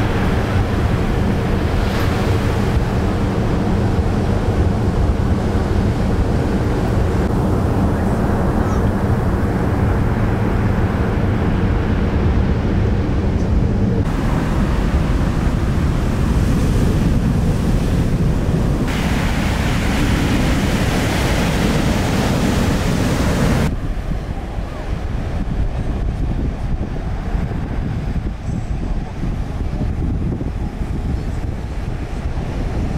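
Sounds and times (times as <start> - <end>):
waves breaking: 0.0 - 32.9
wind buffeting microphone: 0.0 - 32.9.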